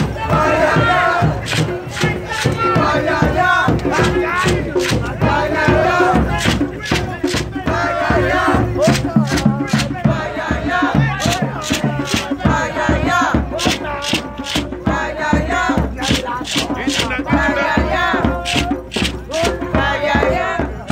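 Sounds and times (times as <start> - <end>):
gourd shaker: 0.0 - 10.1, 10.7 - 19.7
group chanting and singing: 0.0 - 20.9
hand drums beating: 0.0 - 20.9.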